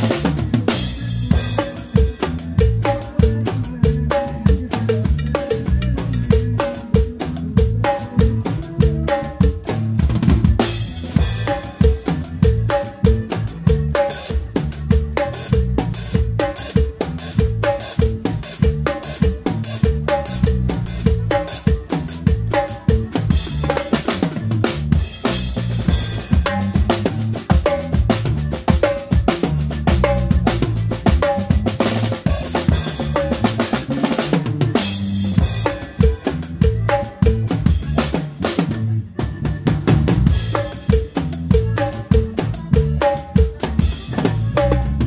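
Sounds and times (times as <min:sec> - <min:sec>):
bass guitar notes: 0:00.0 - 0:45.0
drum kit groove: 0:00.0 - 0:45.0.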